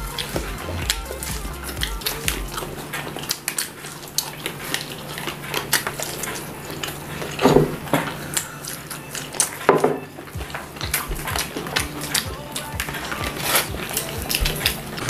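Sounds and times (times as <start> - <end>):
crisp fried potato being chewed: 0.0 - 15.0
wooden skewers and foil plates rattling: 0.0 - 15.0.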